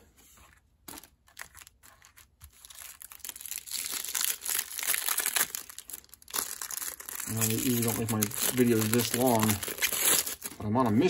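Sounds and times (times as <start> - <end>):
plastic wrapper crinkling and tearing: 0.9 - 10.9.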